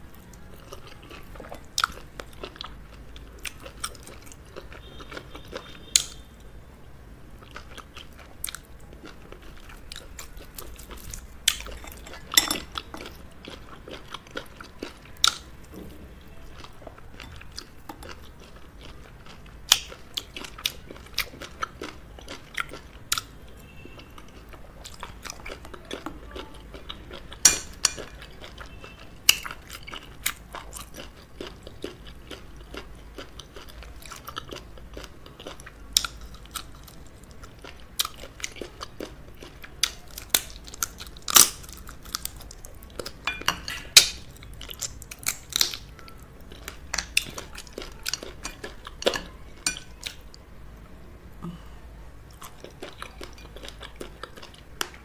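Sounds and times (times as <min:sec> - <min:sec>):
chewing and biting: 0:00.3 - 0:06.2, 0:07.4 - 0:15.5, 0:16.6 - 0:23.4, 0:24.0 - 0:50.3, 0:52.3 - 0:55.0.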